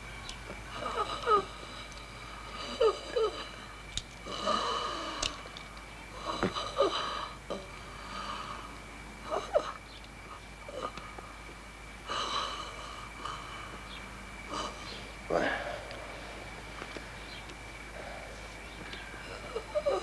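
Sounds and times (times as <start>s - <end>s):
person wheezing breaths: 0.7s - 9.8s, 10.7s - 16.6s, 17.9s - 20.0s.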